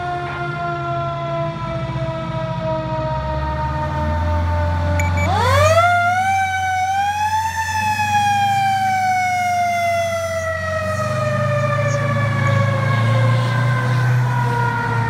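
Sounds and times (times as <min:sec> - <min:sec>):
fire truck siren: 0:00.0 - 0:15.0
truck engine rumble: 0:00.0 - 0:15.0.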